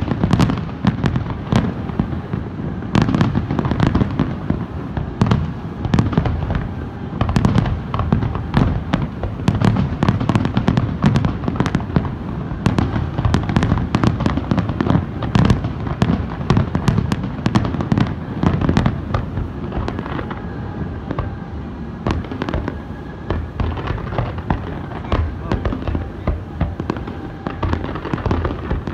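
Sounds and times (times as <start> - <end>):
fireworks bursting: 0.0 - 28.9.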